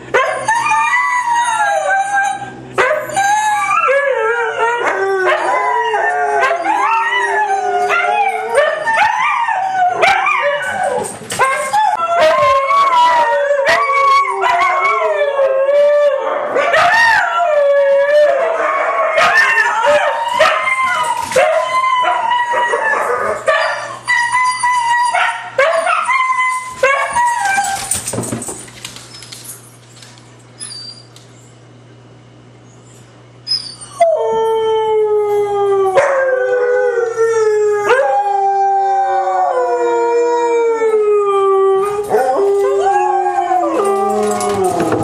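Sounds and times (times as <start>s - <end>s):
huskies howling: 0.1s - 28.0s, 33.9s - 45.0s.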